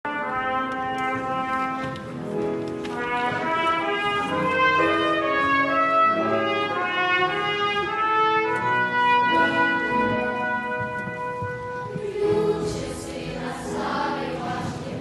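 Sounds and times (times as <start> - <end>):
trumpet melody: 0.0 - 12.2.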